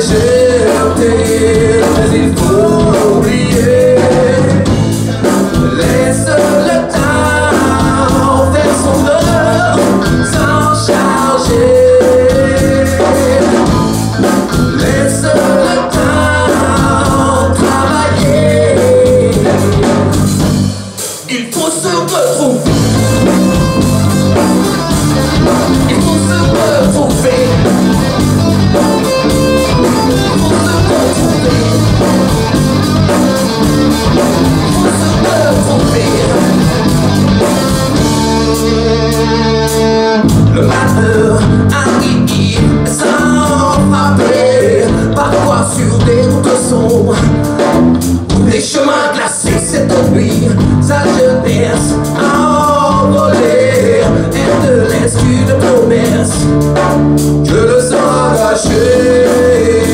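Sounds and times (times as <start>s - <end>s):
man singing: 0.0s - 20.3s, 21.2s - 24.4s, 25.3s - 32.9s, 34.0s - 47.5s, 48.3s - 59.9s
live rock band: 0.0s - 59.9s.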